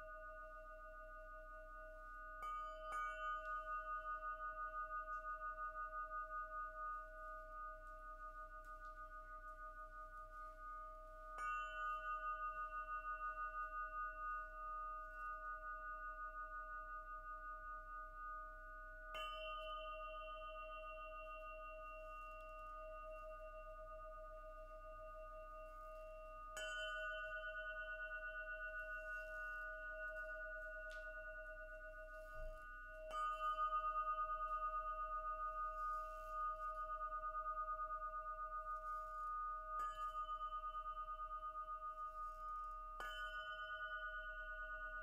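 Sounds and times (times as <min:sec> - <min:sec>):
quartz crystal pyramid ringing: 0:00.0 - 0:45.0.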